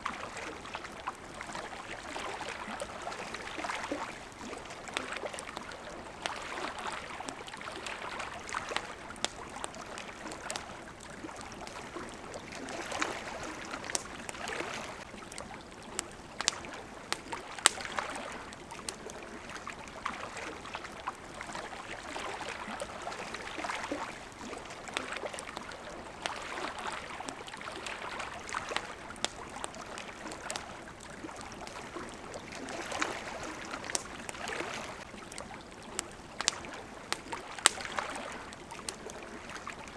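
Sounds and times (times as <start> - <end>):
campfire crackling: 0.0 - 39.9
small waves lapping: 0.0 - 39.9.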